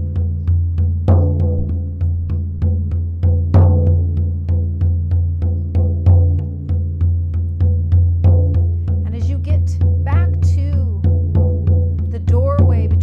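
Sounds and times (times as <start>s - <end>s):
frame drum beaten steadily: 0.0s - 13.0s.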